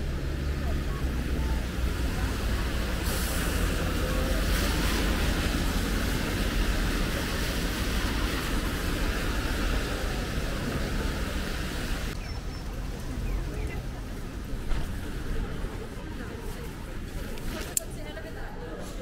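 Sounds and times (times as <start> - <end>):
tyres hissing on wet road: 0.0 - 17.7
car engines rumbling: 0.0 - 19.0.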